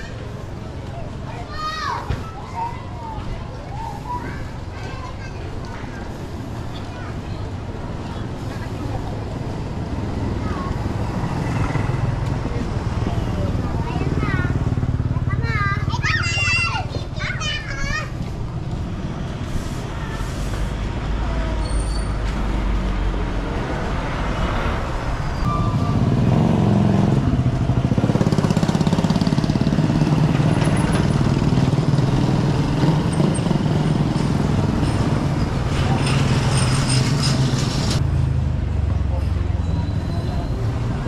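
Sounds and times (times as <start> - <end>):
motorcycle engines passing: 0.0 - 41.0
street noise: 0.0 - 41.0.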